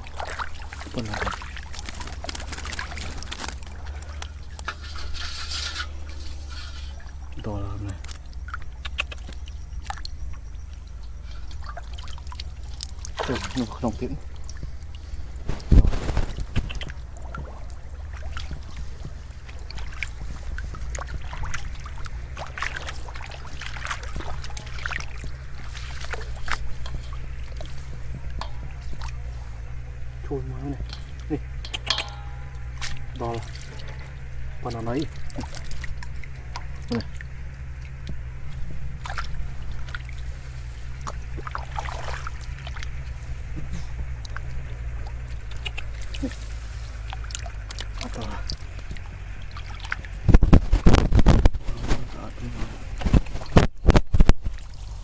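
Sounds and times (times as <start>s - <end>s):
water dripping: 0.0s - 51.6s
steady low hum: 0.0s - 55.0s
steady low rumble: 0.0s - 55.0s
water splashing and sloshing: 0.0s - 55.0s.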